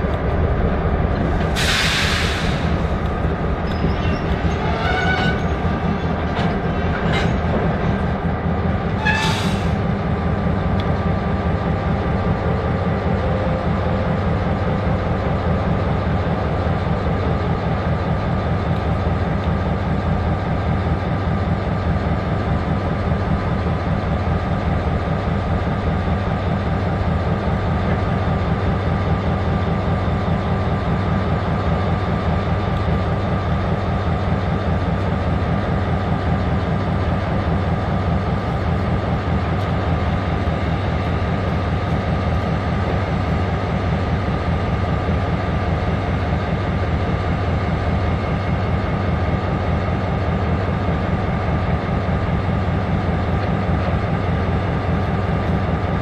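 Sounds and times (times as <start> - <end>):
diesel locomotive engine throb: 0.0 - 56.0.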